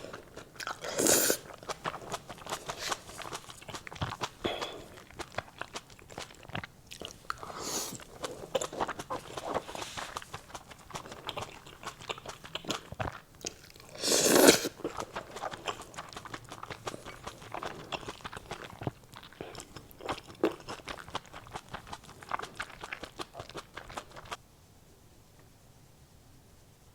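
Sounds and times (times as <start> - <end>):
person chewing and crunching food: 0.0 - 24.4.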